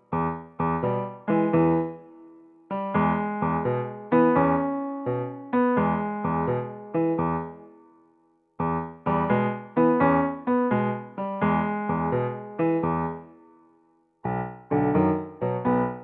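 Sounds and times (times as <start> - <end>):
light keyboard tune: 0.0 - 7.8, 8.6 - 13.4, 14.2 - 16.0.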